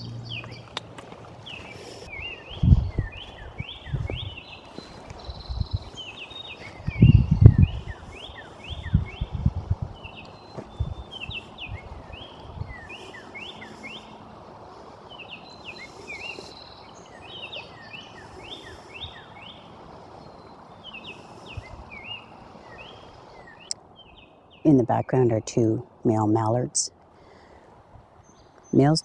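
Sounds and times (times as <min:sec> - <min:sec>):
small birds chirping: 0:00.0 - 0:25.4
steady outdoor hiss: 0:00.0 - 0:29.0.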